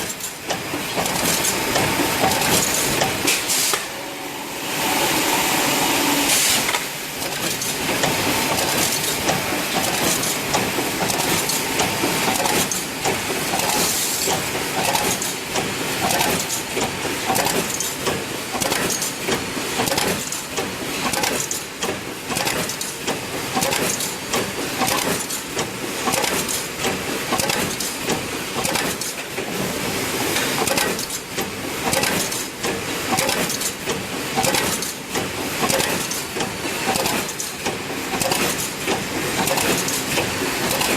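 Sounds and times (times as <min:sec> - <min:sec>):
welding machine clattering: 0:00.0 - 0:03.9, 0:06.6 - 0:40.9.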